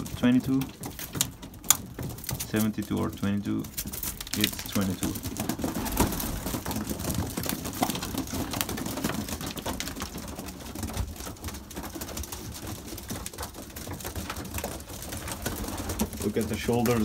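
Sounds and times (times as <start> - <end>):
pigeons pecking beak taps: 0.0 - 17.0.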